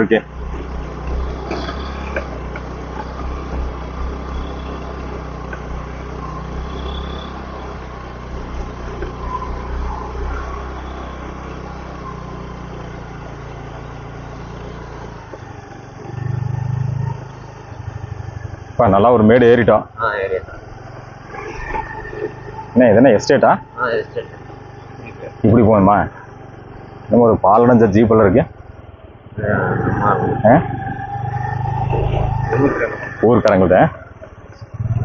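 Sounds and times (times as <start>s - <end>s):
motorcycle engine under load: 0.0s - 35.0s
road and wind noise: 0.0s - 35.0s.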